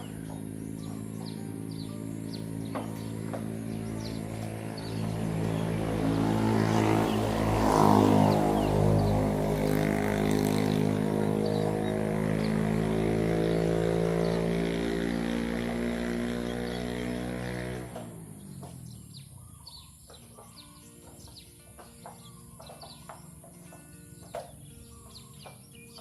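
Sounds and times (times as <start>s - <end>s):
birds chirping: 0.0s - 26.0s
engine hum passing by: 0.0s - 26.0s.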